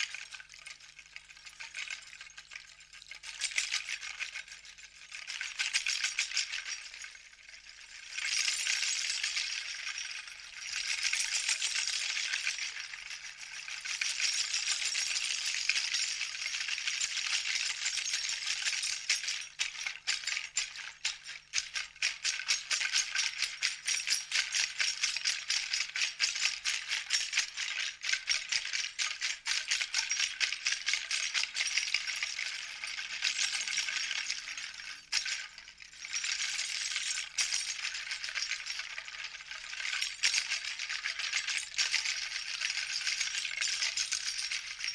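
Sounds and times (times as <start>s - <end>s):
hand rattle shaking: 0.0s - 44.9s.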